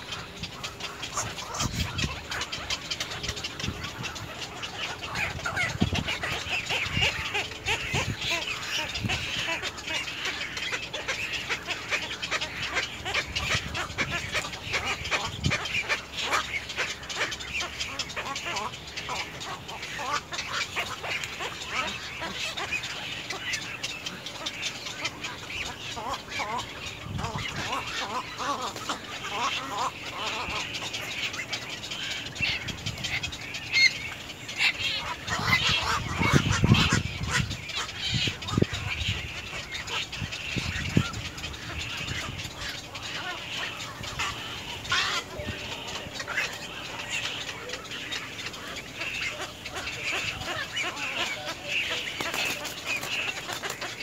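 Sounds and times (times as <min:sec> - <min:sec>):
herons calling harshly: 0:00.0 - 0:54.0
low heron squawks: 0:00.0 - 0:54.0.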